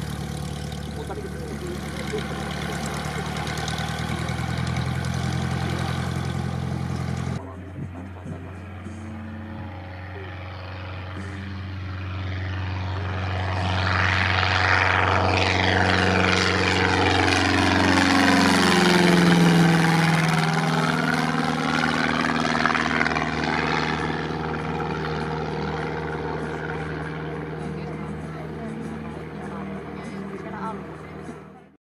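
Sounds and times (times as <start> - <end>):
propeller plane engine passing overhead: 0.0 - 31.8.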